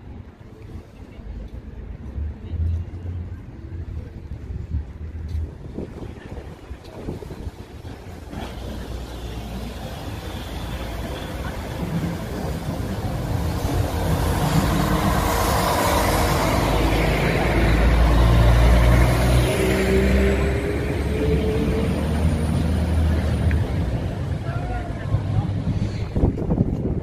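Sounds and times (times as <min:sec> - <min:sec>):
diesel train engine rumbling: 0:00.0 - 0:27.0
train wheels on rails: 0:05.0 - 0:27.0.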